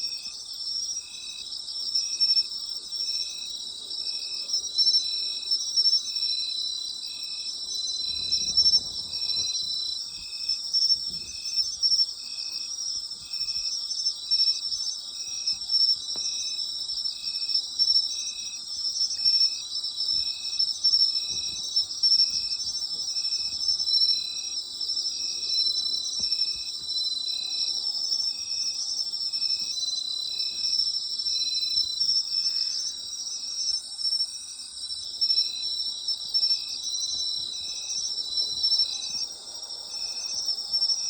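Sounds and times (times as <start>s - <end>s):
crickets and insects chirring: 0.0s - 41.0s.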